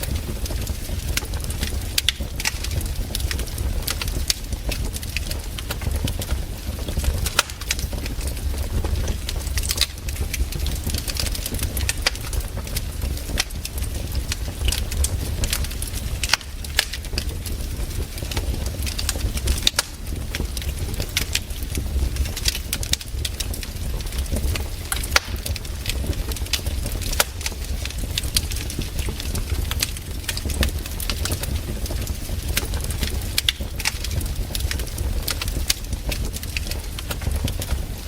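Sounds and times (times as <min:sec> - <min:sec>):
campfire crackling: 0:00.0 - 0:38.0
low fire rumble: 0:00.0 - 0:38.0
sharp pops of burning wood: 0:00.0 - 0:38.0.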